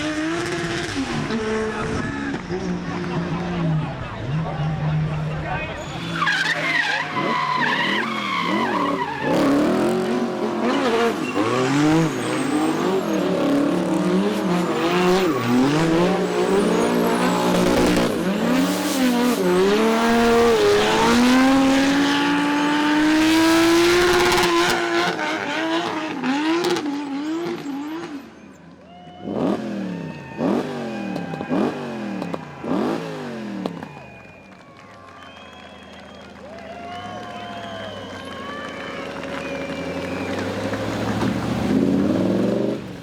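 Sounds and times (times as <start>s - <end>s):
racing car engine revving: 0.0s - 28.6s, 29.2s - 34.6s, 37.1s - 43.0s.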